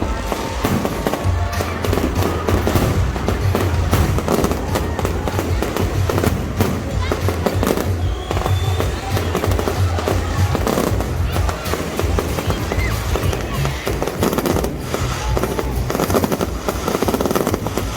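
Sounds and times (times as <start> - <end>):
fireworks cracking and banging: 0.0 - 17.9
music with deep bass: 0.0 - 17.9
people's voices: 0.0 - 17.9.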